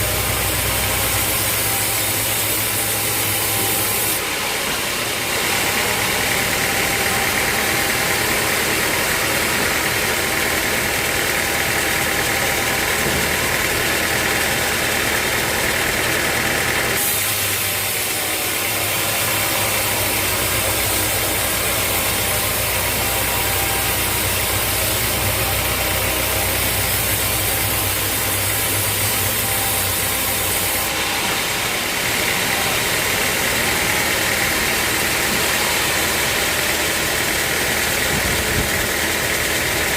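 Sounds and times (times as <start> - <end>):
deeper machine hum: 0.0 - 39.9
sawmill machinery running: 0.0 - 39.9.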